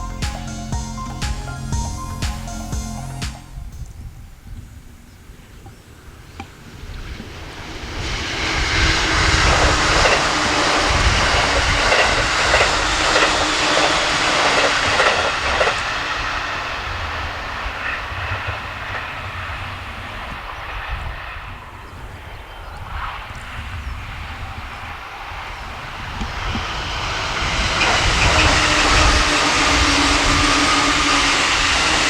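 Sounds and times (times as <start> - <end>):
steady train hum: 0.0 - 32.0
train wheels rushing on rail: 6.0 - 32.0.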